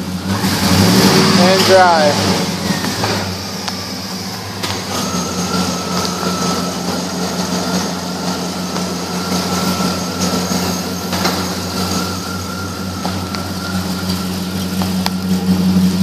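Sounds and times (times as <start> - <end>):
engine running: 0.0 - 16.0
thin steady whine: 1.3 - 16.0.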